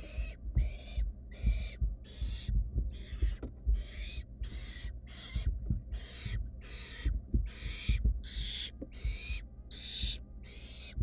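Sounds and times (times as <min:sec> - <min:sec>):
soft thuds on nest floor: 0:00.0 - 0:10.2
owl chicks hissing calls: 0:00.0 - 0:11.0.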